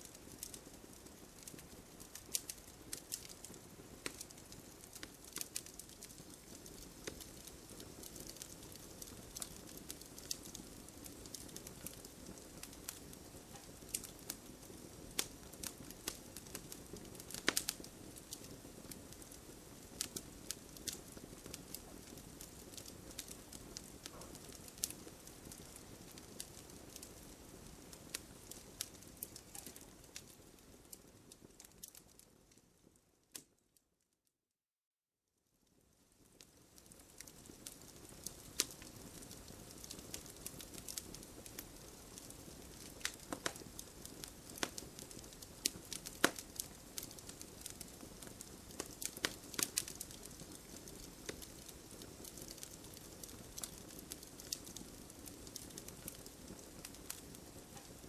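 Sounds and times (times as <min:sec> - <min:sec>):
campfire crackling and popping: 0:00.0 - 0:33.6, 0:35.7 - 0:58.0
low hiss of fire: 0:00.0 - 0:33.6, 0:35.6 - 0:58.0.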